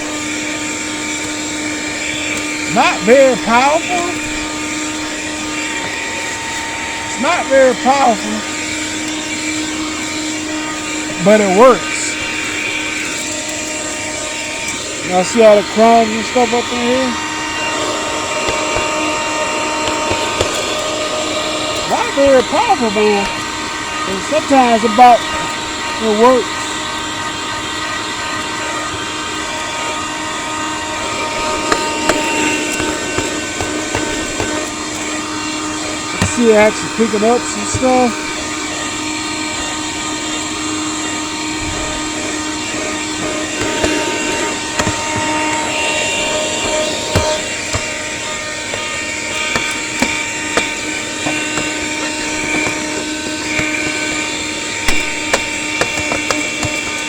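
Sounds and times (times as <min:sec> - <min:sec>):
handheld vacuum cleaner whine: 0:00.0 - 0:57.0.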